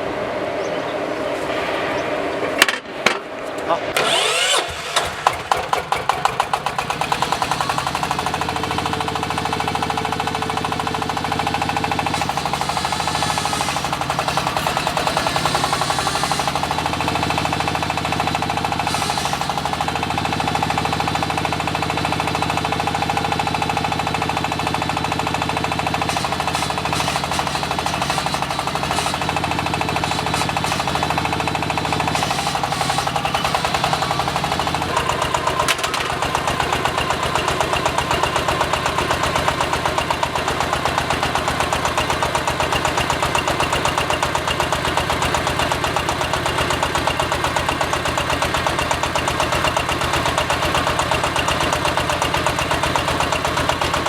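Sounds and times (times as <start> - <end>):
diesel engine knocking: 4.0 - 54.0.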